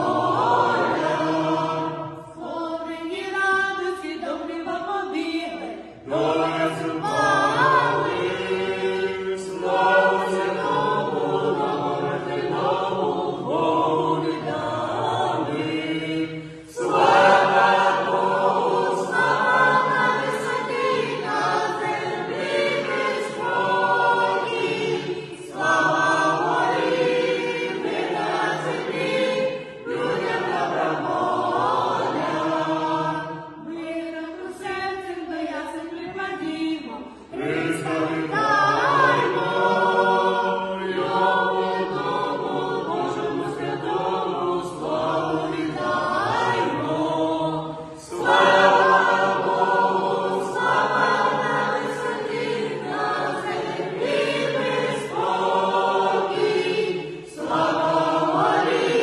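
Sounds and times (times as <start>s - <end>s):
group singing a carol unaccompanied: 0.0s - 59.0s.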